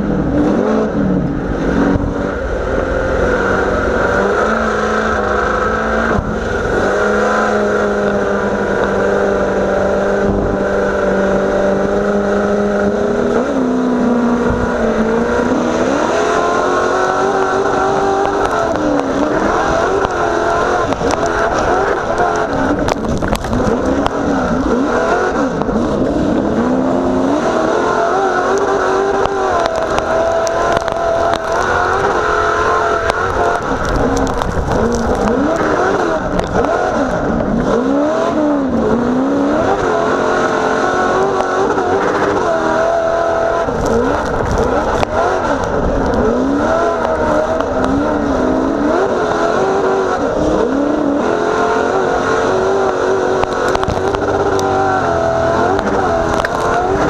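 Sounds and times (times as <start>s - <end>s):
race truck engine revving: 0.0s - 57.0s.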